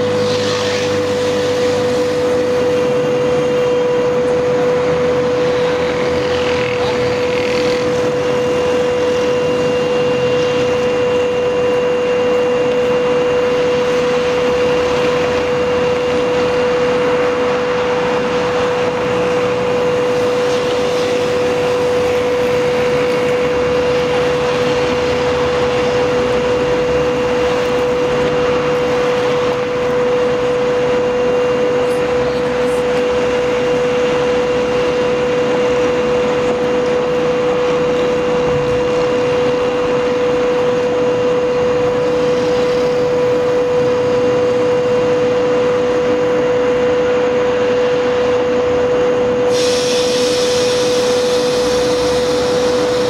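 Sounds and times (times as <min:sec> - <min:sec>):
locomotive cooling blowers droning: 0:00.0 - 0:53.0.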